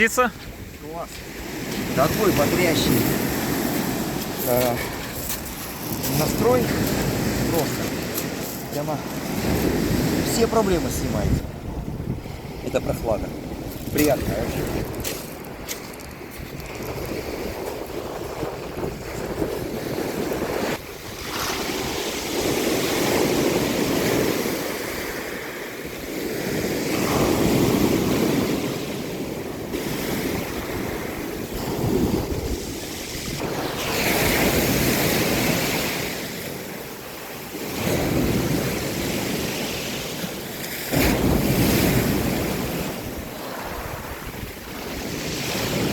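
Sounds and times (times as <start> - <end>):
sea waves breaking on shore: 0.0 - 45.9
wind buffeting microphone: 0.1 - 24.8, 26.8 - 35.9, 40.9 - 45.9.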